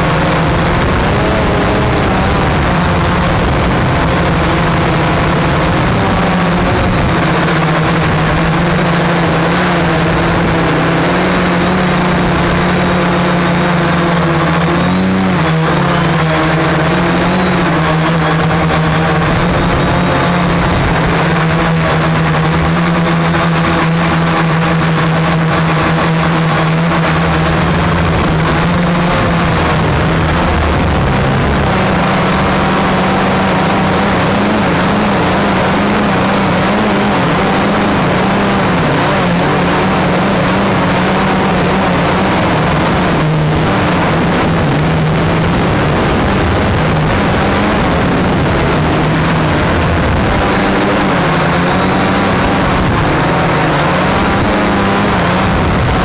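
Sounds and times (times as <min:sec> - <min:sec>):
drone motors droning: 0:00.0 - 0:56.0.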